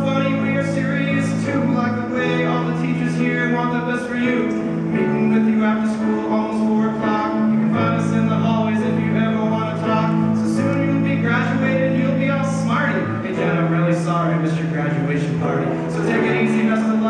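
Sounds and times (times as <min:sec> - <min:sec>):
instrumental accompaniment: 0:00.0 - 0:17.0
man singing into microphone: 0:00.0 - 0:17.0.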